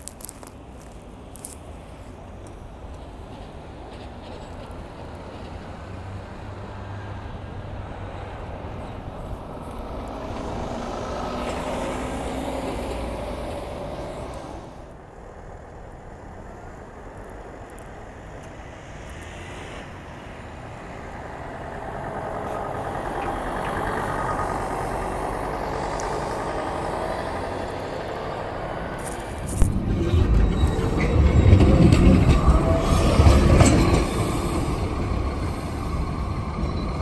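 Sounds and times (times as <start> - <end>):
buses driving past: 0.0 - 37.0.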